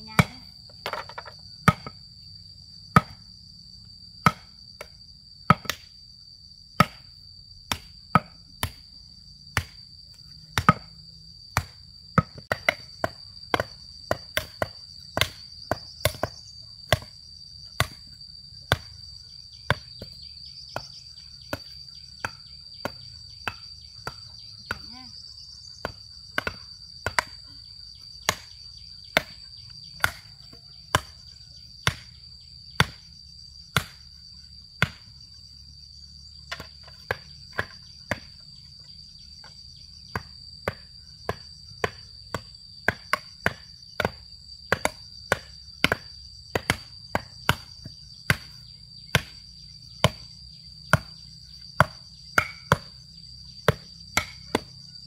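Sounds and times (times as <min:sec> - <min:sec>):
high drone of insects: 0:00.0 - 0:55.0.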